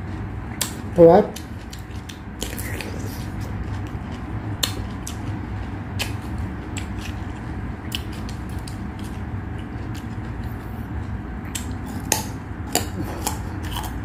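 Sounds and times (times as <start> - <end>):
steady low hum: 0.0 - 14.0
chewing crisp cucumber: 0.5 - 14.0.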